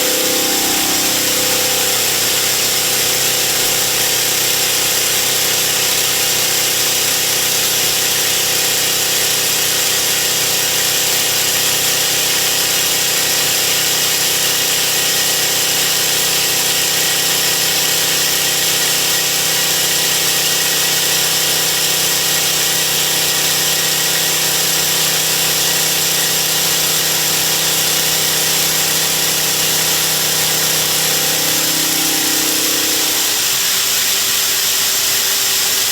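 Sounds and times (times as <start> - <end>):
milling machine cutting whine: 0.0 - 34.1.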